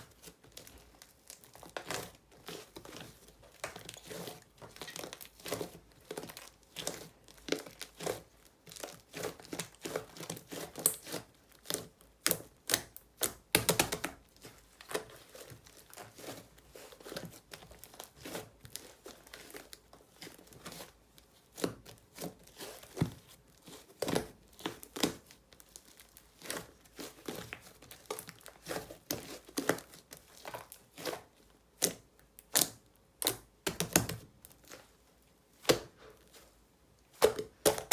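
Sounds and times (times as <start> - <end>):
hands squishing sticky slime: 0.1 - 34.9, 35.6 - 37.9.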